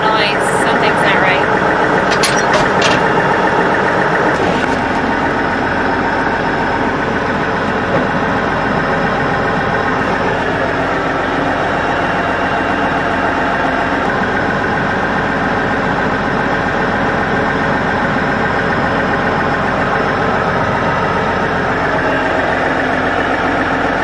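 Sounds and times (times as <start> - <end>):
farm vehicle engine running: 0.0 - 24.0.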